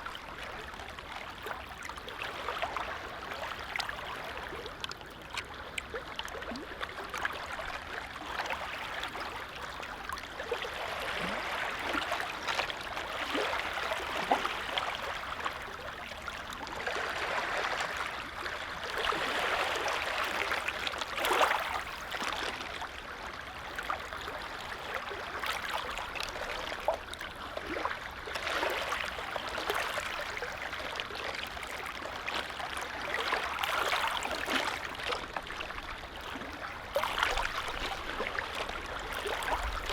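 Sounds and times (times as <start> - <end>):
lake waves lapping: 0.0 - 39.9.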